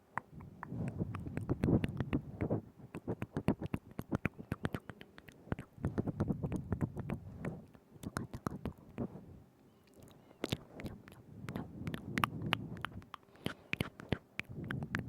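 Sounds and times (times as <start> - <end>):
lip smacks: 0.0 - 9.1, 9.9 - 15.0
wet tongue clicks: 0.0 - 9.1, 9.8 - 15.0
soft moist mouth noise: 0.0 - 9.2, 9.8 - 15.0.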